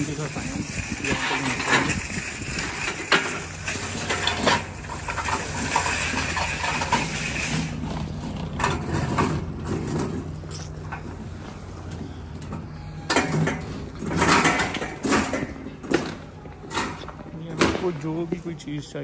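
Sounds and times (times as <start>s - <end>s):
metal trolley rattling on concrete: 0.0s - 18.3s.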